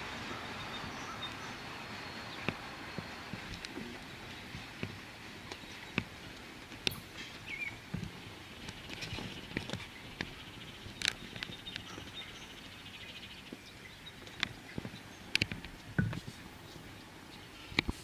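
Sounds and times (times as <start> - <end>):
birds chirping: 0.0 - 18.0
faint outdoor background noise: 0.0 - 18.0.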